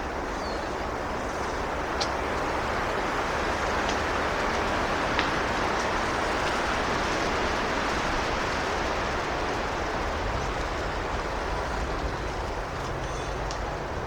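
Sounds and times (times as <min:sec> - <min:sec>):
wind rushing through trees: 0:00.0 - 0:14.0.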